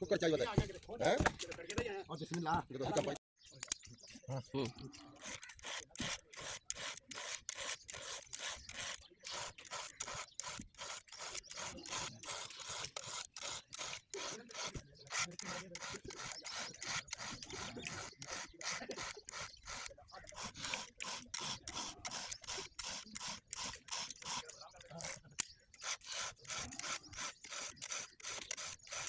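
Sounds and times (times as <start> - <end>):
hand saw cutting wood: 5.0 - 29.0.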